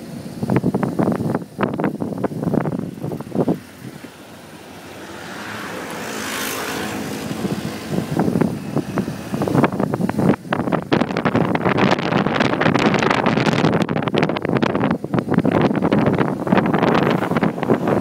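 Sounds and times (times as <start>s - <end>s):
car engine and road noise: 0.0s - 18.0s
wind buffeting microphone: 0.0s - 18.0s.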